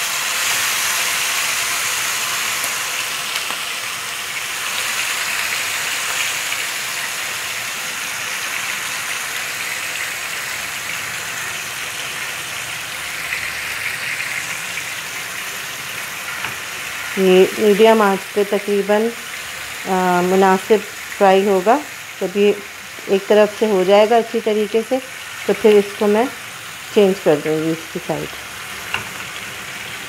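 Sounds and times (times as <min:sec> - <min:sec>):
steaks sizzling in grill pan: 0:00.0 - 0:30.0.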